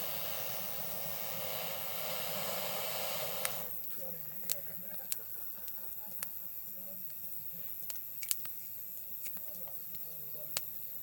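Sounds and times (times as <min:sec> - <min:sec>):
campfire crackling and popping: 0:00.1 - 0:11.0.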